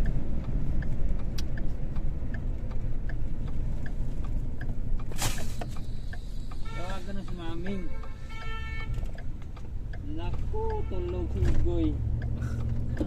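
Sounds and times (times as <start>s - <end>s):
car engine and road rumble: 0.0s - 13.0s
turn signal ticking: 0.0s - 13.0s.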